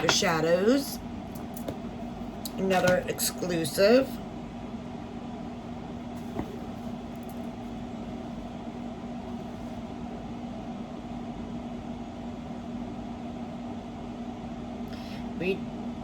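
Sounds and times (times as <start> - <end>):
mechanical room hum: 0.0 - 16.0.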